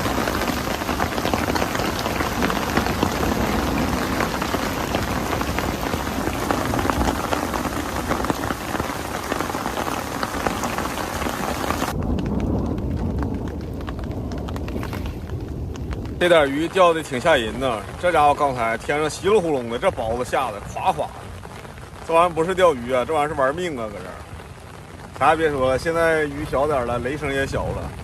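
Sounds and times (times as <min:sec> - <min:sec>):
hailstones ticking on umbrella: 0:00.0 - 0:28.0
heavy rain on umbrella: 0:00.0 - 0:28.0.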